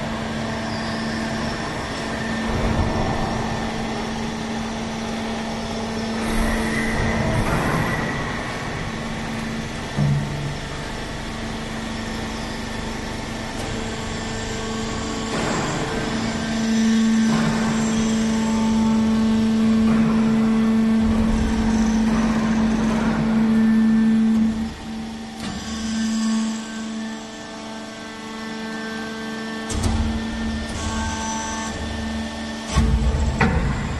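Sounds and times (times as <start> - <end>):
baler motor and pump hum: 0.0 - 33.9.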